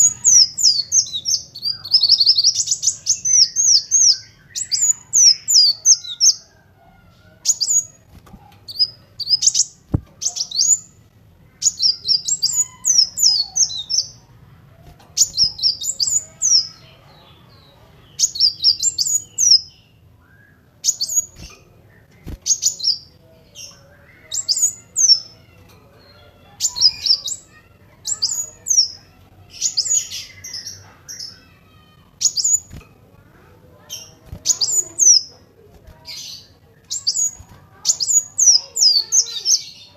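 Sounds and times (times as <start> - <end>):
sunbird singing high chirps: 0.0 - 6.6, 7.3 - 8.1, 8.7 - 14.3, 15.2 - 32.8, 33.8 - 35.4, 36.0 - 39.9.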